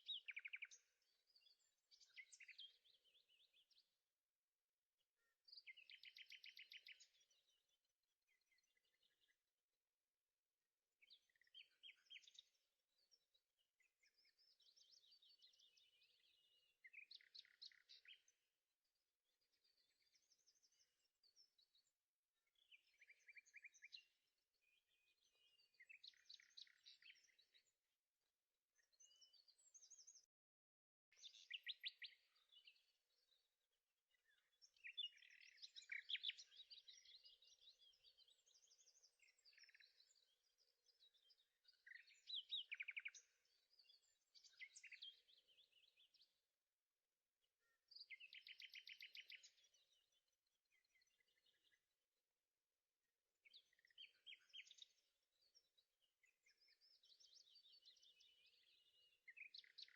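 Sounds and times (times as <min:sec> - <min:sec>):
small birds chirping and trilling: 0:00.0 - 0:04.3, 0:04.9 - 0:10.0, 0:10.9 - 0:52.3, 0:53.2 - 0:59.9.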